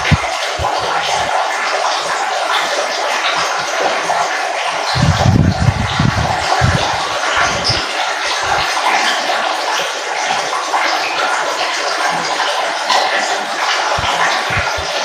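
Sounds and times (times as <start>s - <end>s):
water flowing and trickling: 0.0s - 15.0s
water gurgling: 0.0s - 15.0s.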